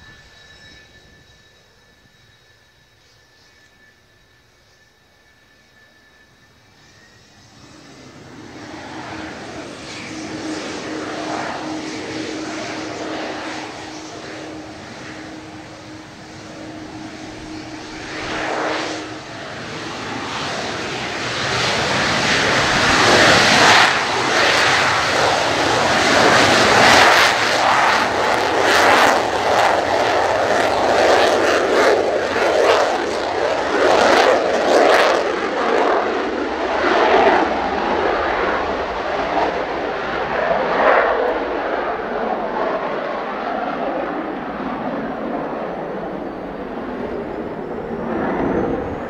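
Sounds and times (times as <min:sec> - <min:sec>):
jet engines roaring on takeoff: 0:00.0 - 0:49.0.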